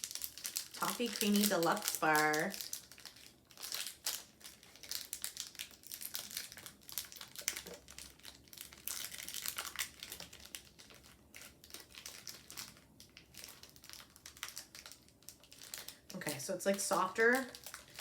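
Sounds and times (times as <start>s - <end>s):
candy wrapper crinkling: 0.0s - 18.0s.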